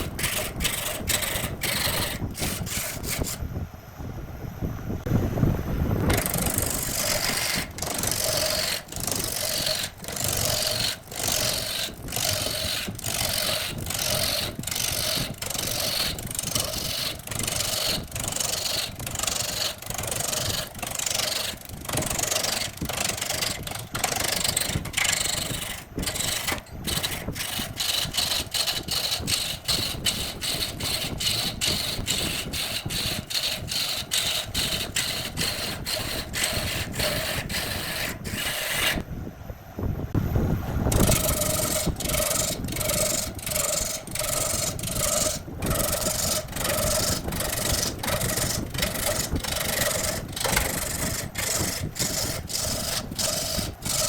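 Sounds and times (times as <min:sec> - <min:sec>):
wood lathe cutting wood: 0:00.0 - 0:03.4, 0:06.1 - 0:39.0, 0:41.1 - 0:54.0.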